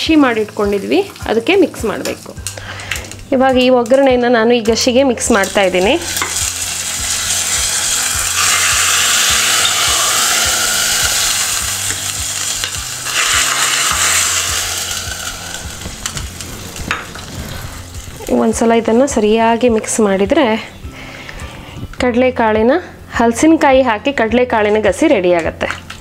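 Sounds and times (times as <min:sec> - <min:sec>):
hot oil sizzling: 0:00.0 - 0:21.4.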